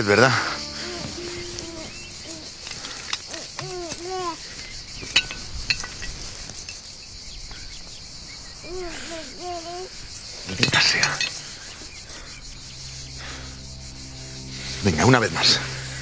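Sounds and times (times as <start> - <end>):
insect chirring: 0.0 - 16.0.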